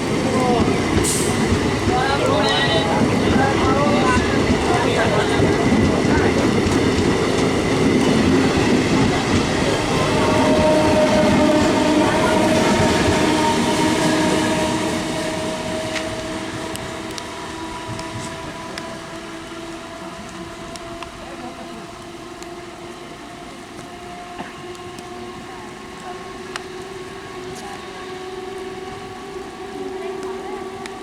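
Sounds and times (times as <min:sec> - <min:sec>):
train running noise: 0:00.0 - 0:31.0.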